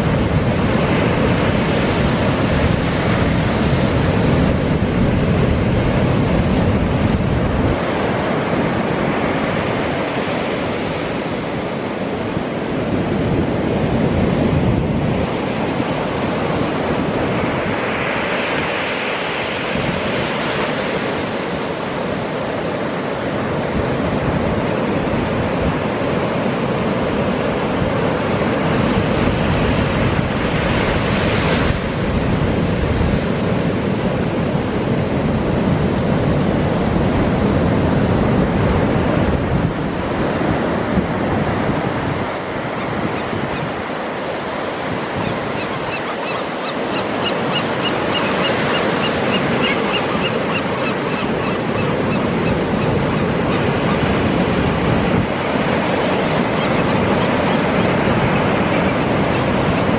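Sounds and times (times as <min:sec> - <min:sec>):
wind buffeting microphone: 0:00.0 - 0:18.7, 0:19.6 - 0:46.0, 0:46.7 - 0:59.9
surf breaking on a beach: 0:00.0 - 0:59.9.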